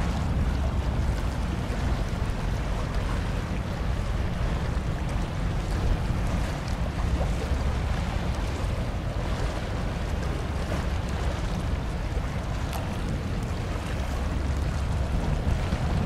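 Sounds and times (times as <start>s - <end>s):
choppy sea water: 0.0s - 16.0s
wind on microphone: 0.0s - 16.0s.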